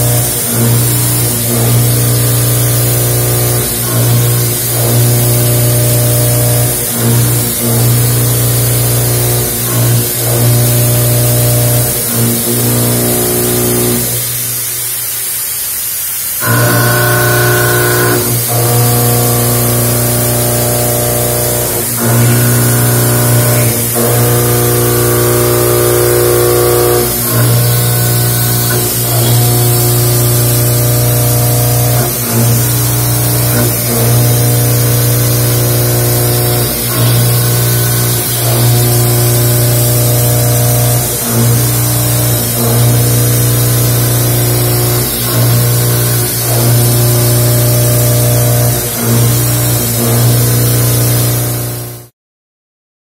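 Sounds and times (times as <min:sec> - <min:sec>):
milling machine cutting metal: 0:00.0 - 0:14.9, 0:16.2 - 0:52.1.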